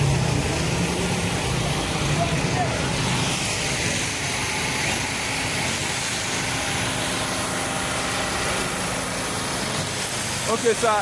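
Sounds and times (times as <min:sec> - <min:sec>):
engine and road noise: 0:00.0 - 0:11.0
faint low engine hum: 0:00.0 - 0:11.0.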